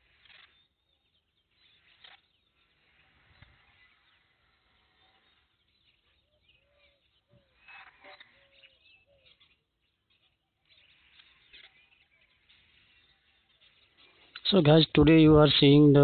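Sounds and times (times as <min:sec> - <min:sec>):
faint bird calls: 0:00.0 - 0:15.6.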